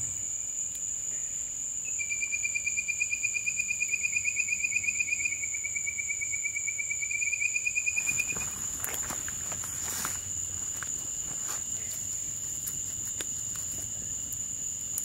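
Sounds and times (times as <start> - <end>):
pulsing insect trill: 0.0 - 15.0.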